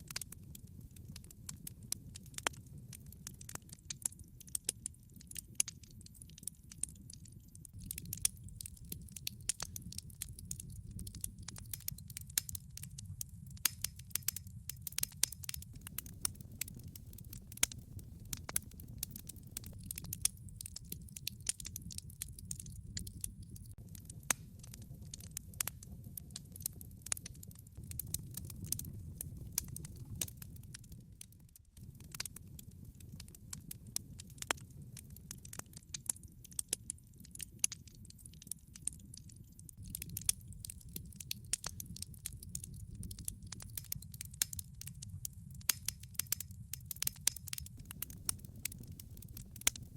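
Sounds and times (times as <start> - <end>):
flames rumbling: 0.0 - 35.9, 39.7 - 49.9
log fire crackling and popping: 0.0 - 49.9.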